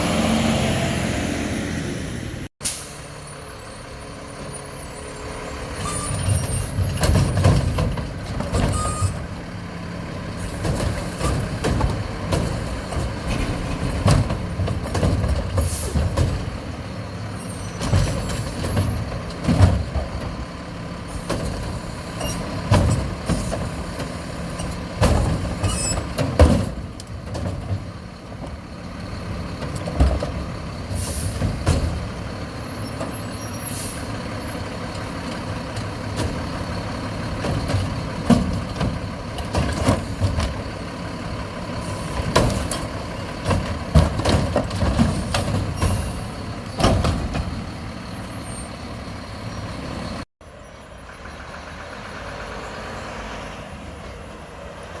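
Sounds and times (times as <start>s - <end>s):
garbage truck engine running: 0.0s - 55.0s.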